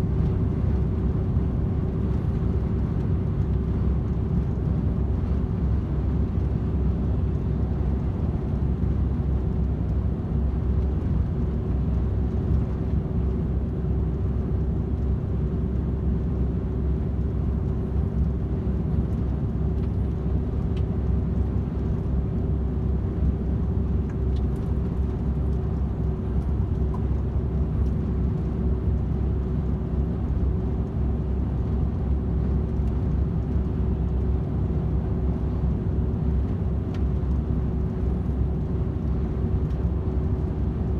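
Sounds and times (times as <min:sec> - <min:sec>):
truck diesel engine rumble: 0:00.0 - 0:40.9
tyres humming on road: 0:00.0 - 0:40.9.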